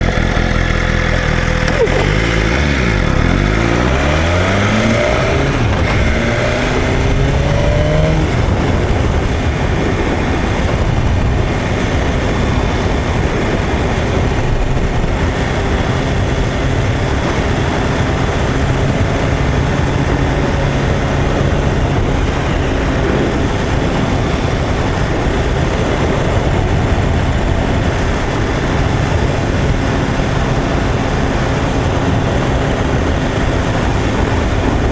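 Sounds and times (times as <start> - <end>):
motorcycle engine running: 0.0 - 34.9
wind and road noise: 0.0 - 34.9.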